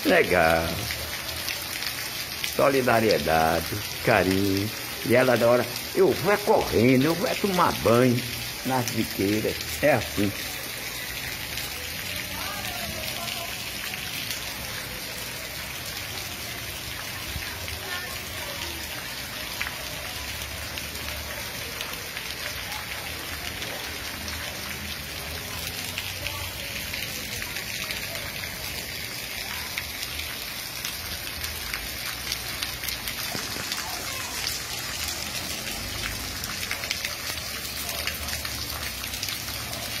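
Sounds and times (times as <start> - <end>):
heavy rain on wet street: 0.0 - 40.0
single raindrops ticking: 0.0 - 40.0.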